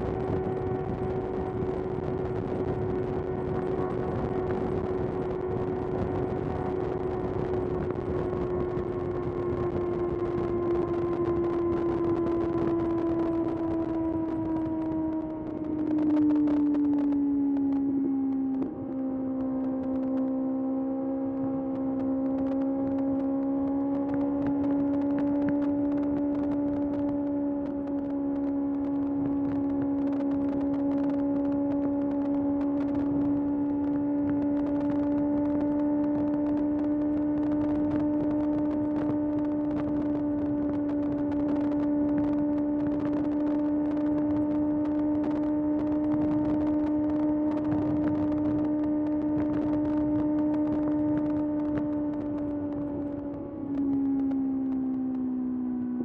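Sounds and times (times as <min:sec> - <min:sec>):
motorcycle engine cruising at high revs: 0:00.0 - 0:56.0.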